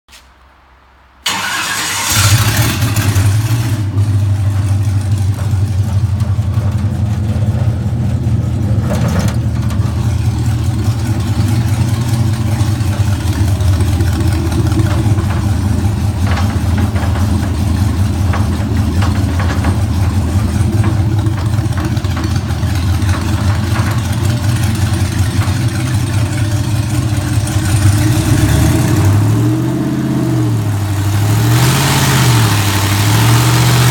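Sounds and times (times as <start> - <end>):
car engine starting and idling: 1.2 - 33.9
engine revving: 1.3 - 33.9.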